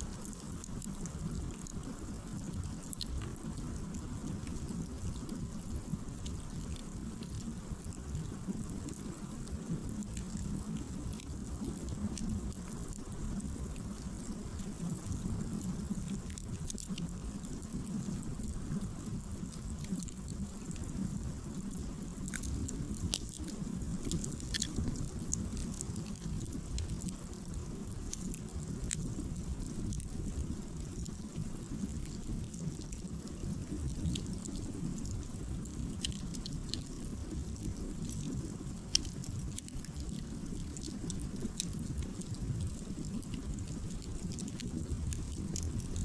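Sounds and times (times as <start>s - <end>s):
campfire crackling and popping: 0.0s - 46.0s
low steady rumble: 0.0s - 46.0s.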